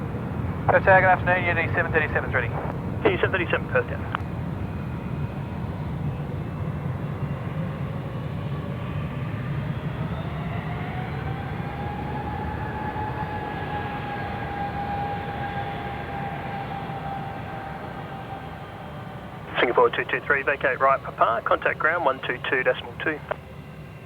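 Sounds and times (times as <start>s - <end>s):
jet engines rumbling and whining: 0.0s - 24.0s.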